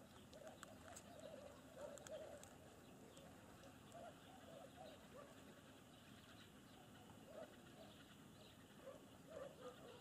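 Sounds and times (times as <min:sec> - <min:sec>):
faint bird calls: 0:00.0 - 0:10.0.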